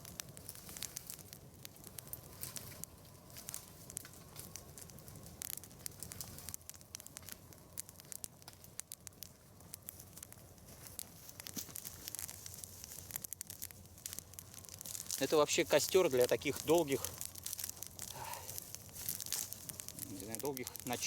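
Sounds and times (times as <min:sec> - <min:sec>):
brushwood fire crackling: 0:00.0 - 0:21.0.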